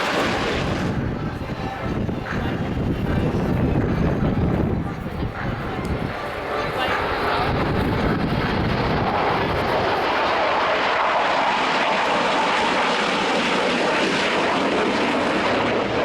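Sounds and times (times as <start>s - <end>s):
aircraft flying past: 0.0s - 16.0s.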